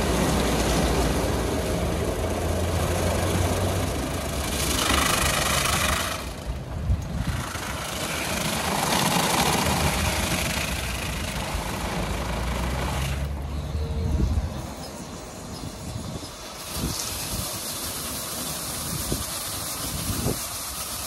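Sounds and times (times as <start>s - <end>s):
motors humming: 0.0s - 21.0s.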